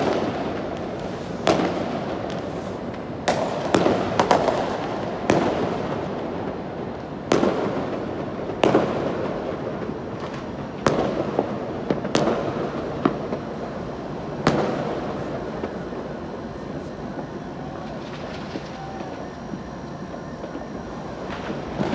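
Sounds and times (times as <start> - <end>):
distant fireworks rumble: 0.0 - 21.9
firework bangs: 0.0 - 21.9.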